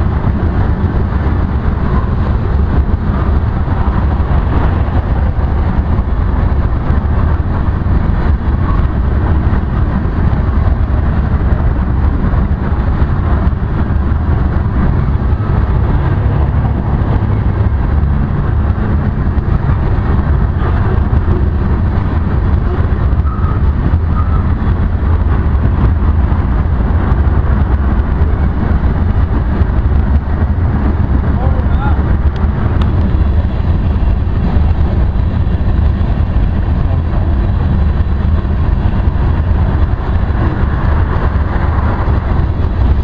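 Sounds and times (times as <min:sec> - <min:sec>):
freight train wheels rumbling on rails: 0:00.0 - 0:43.0.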